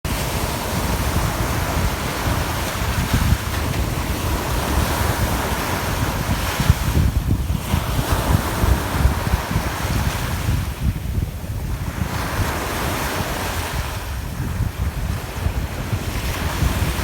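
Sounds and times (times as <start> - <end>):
sea waves breaking: 0.1 - 17.0
wind buffeting microphone: 0.1 - 17.0.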